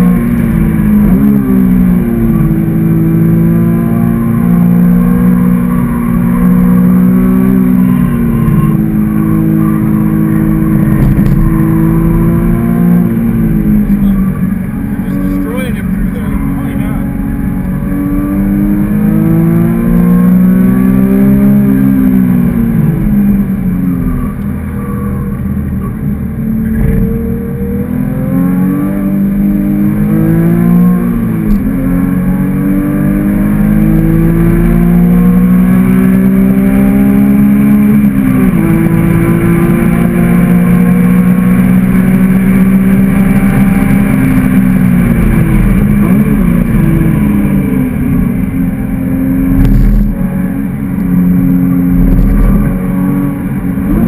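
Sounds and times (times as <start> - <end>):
sports car engine revving: 0.0 - 54.0.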